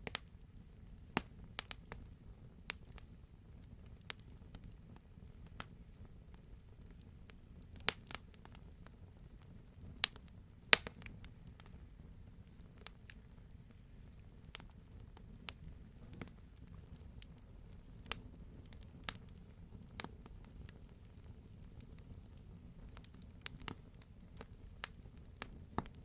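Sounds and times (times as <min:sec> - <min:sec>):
campfire rumble: 0:00.0 - 0:26.0
fire crackles and pops: 0:00.0 - 0:26.0.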